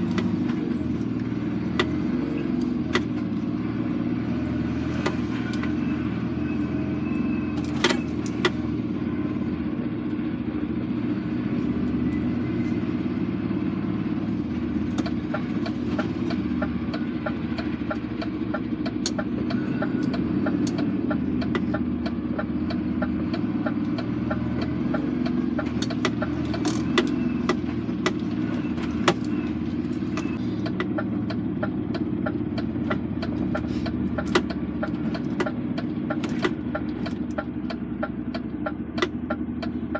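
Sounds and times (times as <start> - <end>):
lorry engine droning: 0.0 - 39.9.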